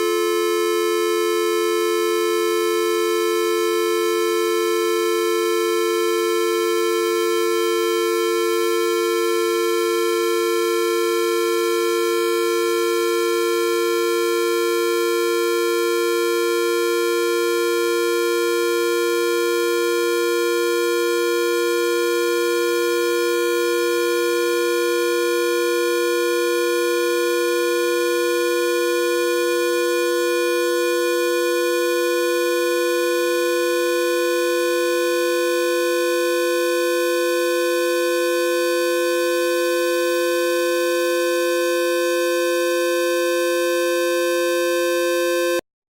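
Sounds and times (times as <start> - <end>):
buzzy two-note synth drone: 0.0 - 45.6.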